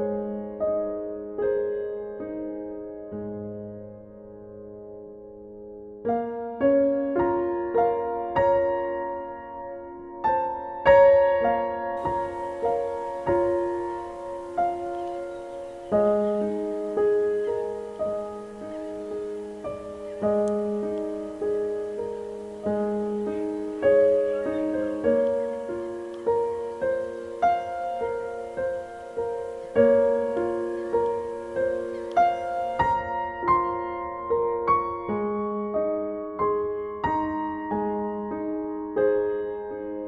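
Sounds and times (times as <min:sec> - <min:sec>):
slow solo piano music: 0:00.0 - 0:40.0.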